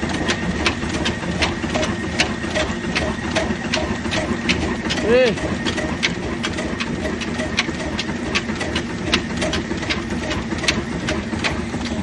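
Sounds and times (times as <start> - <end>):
old diesel engine knocking: 0.0 - 12.0.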